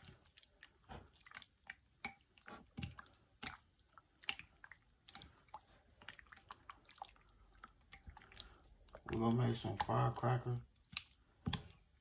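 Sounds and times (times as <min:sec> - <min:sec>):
wet squishes of mixing food: 0:00.0 - 0:12.0.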